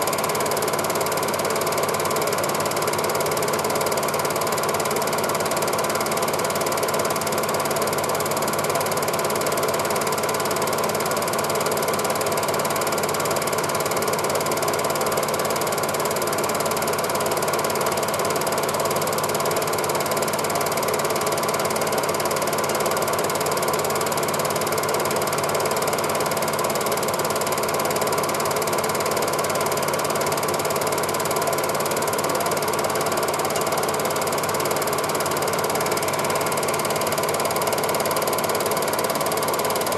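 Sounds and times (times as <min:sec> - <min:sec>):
film projector clatter: 0:00.0 - 0:39.9.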